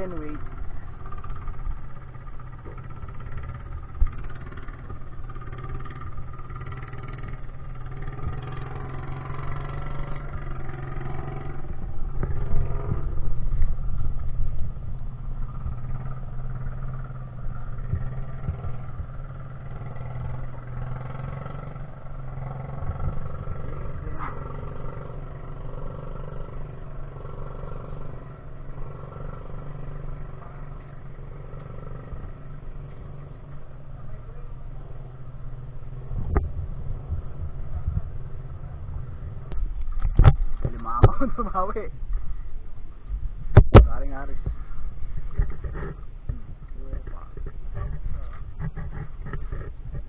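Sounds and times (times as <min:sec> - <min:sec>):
engine humming: 0:00.0 - 0:50.0.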